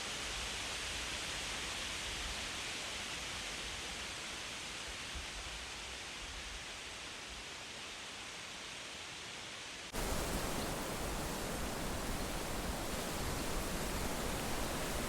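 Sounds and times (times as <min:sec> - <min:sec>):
wind rustling leaves: 0:00.0 - 0:15.0.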